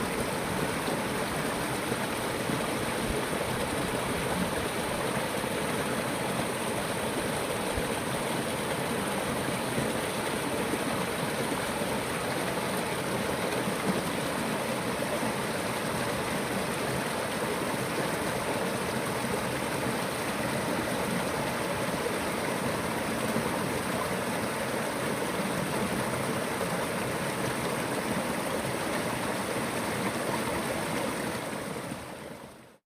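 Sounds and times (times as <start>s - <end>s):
stream water rushing: 0.0s - 32.8s.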